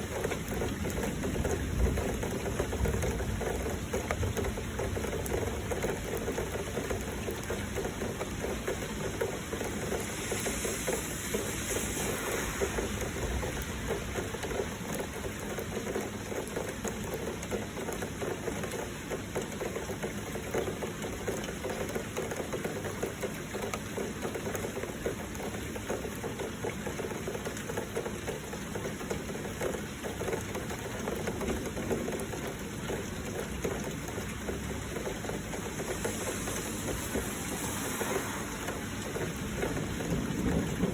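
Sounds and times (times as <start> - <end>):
flowing water rushing: 0.0 - 40.9
heavy rain falling: 0.0 - 40.9.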